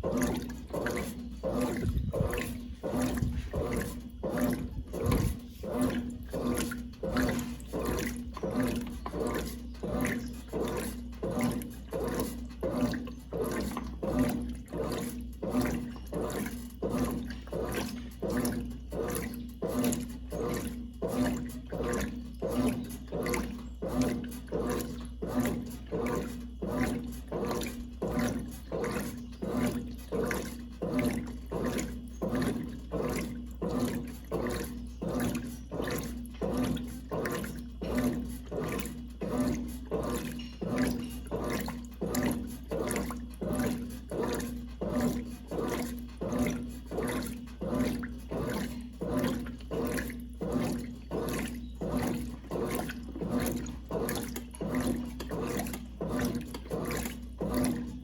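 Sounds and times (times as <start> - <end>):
low motor hum: 0.0 - 58.0
washing machine sloshing: 0.0 - 58.0.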